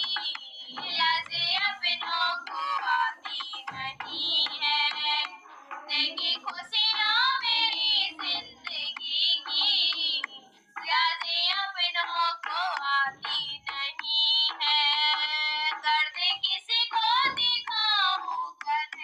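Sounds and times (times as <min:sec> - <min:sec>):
woman singing devotional song: 0:00.0 - 0:19.0.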